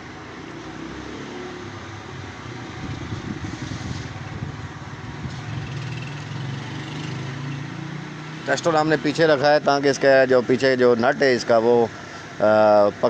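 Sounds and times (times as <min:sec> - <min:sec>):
motor vehicle engine running: 0:00.0 - 0:13.0.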